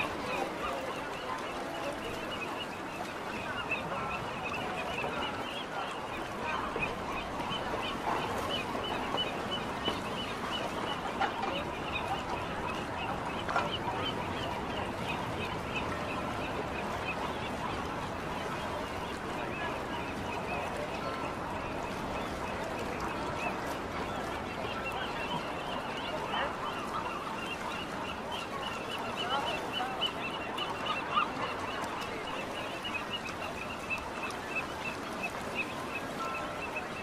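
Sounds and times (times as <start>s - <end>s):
steady background noise: 0.0s - 37.0s.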